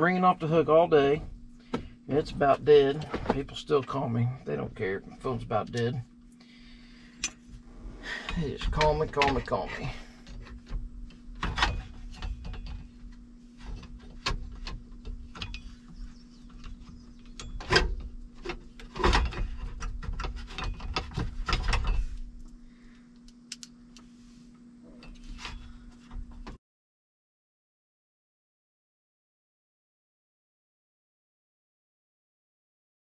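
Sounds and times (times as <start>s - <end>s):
faint low hum: 0.0s - 26.6s.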